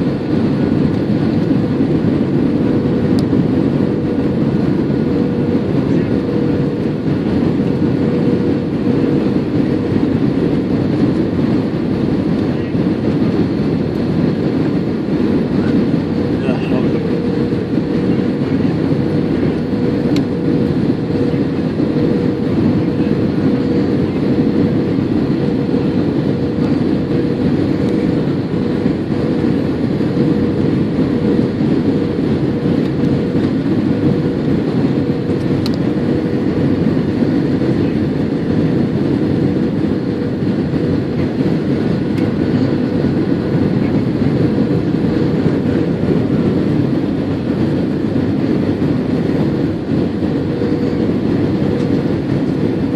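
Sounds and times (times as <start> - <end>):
airplane cabin engine rush and hum: 0.0 - 52.9.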